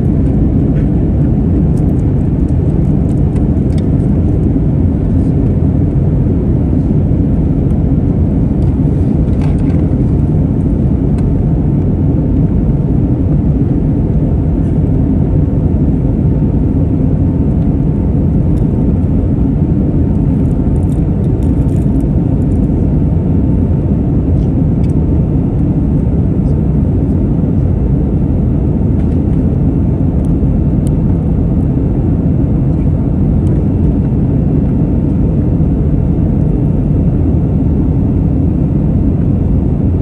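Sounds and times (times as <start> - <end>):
faint steady whine: 0.0 - 40.0
jet engine rumble: 0.0 - 40.0.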